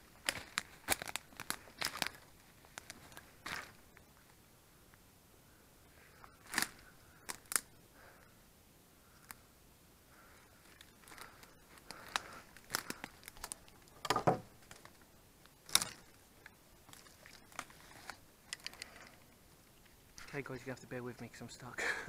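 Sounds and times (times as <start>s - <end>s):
twigs cracking and rustling: 0.0s - 5.0s, 6.0s - 8.2s, 9.0s - 9.5s, 10.1s - 20.7s.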